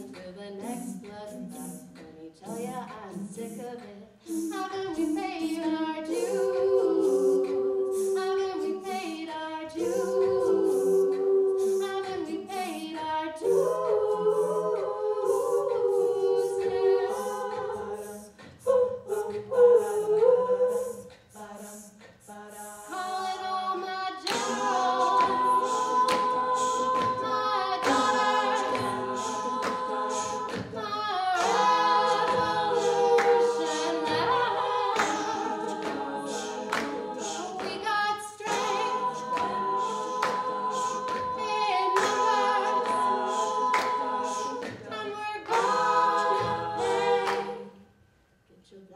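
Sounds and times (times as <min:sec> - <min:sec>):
women's a cappella group singing: 0:00.0 - 0:48.0.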